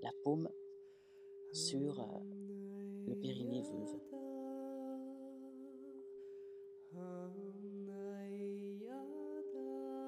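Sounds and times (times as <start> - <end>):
long hummed notes: 0.1 - 10.0.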